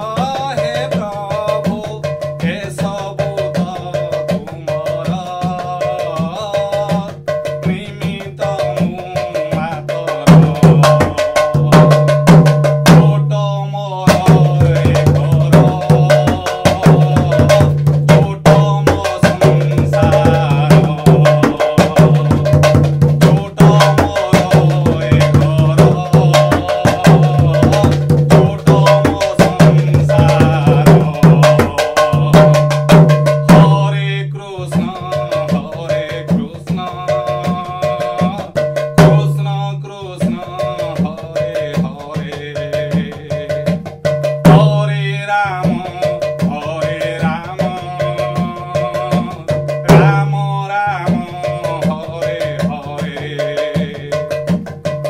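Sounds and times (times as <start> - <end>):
barrel drum played by hand: 0.0 - 55.0.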